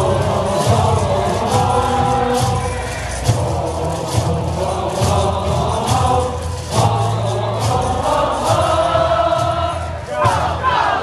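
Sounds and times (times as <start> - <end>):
crowd singing in unison: 0.0 - 11.0
drum beats: 0.0 - 11.0
rhythmic clapping: 0.0 - 11.0.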